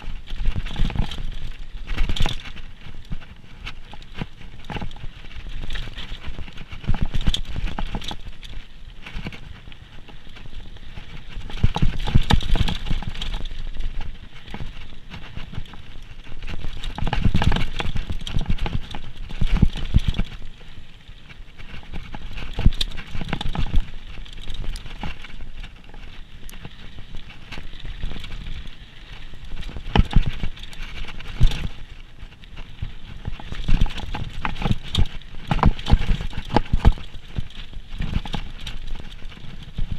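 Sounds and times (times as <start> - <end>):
mountain bike rattling: 0.0 - 39.9.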